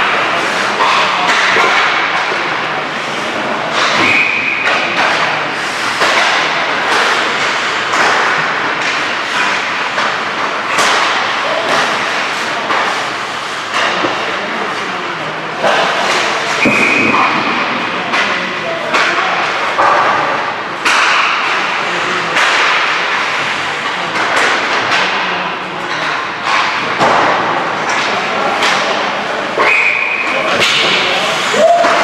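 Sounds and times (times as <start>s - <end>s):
pucks knocking off sticks and boards: 0.0s - 32.0s.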